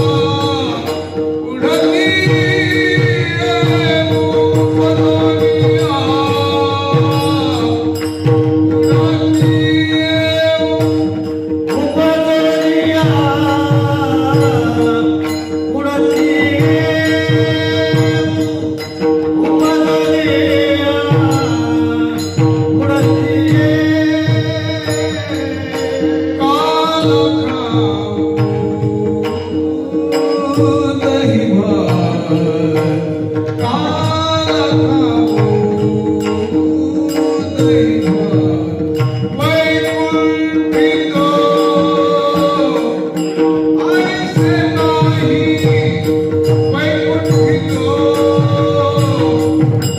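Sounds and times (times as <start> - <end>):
hand cymbals clashing: 0.0 - 49.9
men singing together: 0.0 - 49.9.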